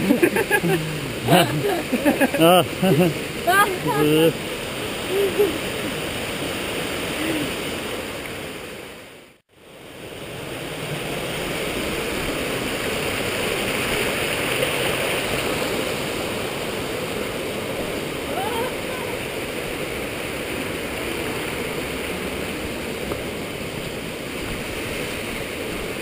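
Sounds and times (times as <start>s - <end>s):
stream water rushing over rocks: 0.0s - 26.0s.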